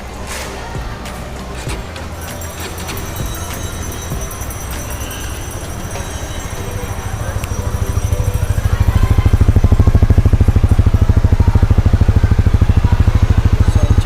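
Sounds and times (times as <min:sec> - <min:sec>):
motorcycle engine running: 0:01.6 - 0:14.0.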